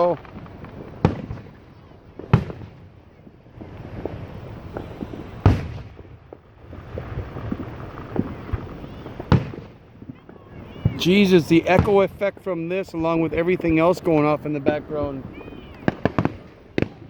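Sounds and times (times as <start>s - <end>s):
fireworks bangs echoing: 0.0s - 17.0s
fireworks pops and crackles: 0.0s - 17.0s.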